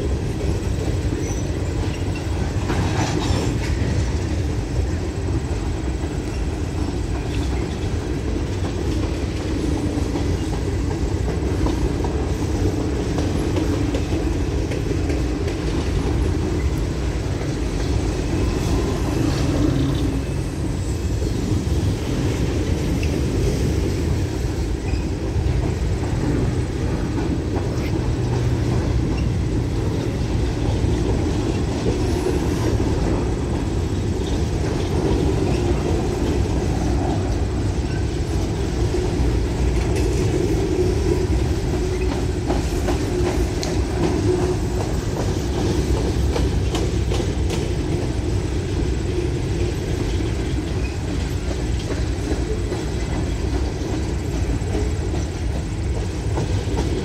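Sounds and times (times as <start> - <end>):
train wheels rumbling on rail: 0.0 - 57.0
wheels clicking over rail joints: 0.0 - 57.0.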